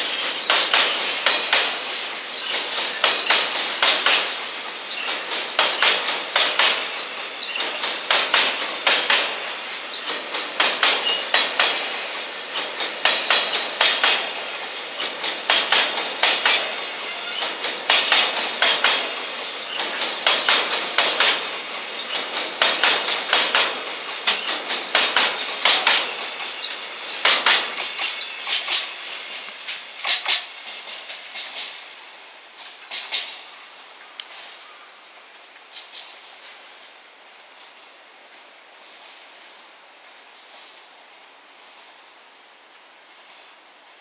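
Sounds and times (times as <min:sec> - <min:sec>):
train wheels clacking on rail joints: 0:00.0 - 0:36.8
train rolling rumble: 0:00.0 - 0:44.0.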